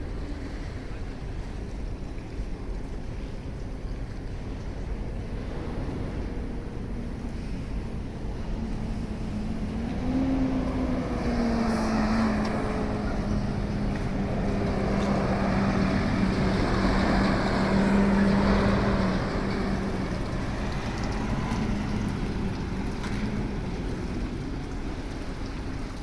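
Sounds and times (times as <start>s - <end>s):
rush of outdoor noise: 0.0s - 26.0s
vehicle engine humming: 4.3s - 26.0s.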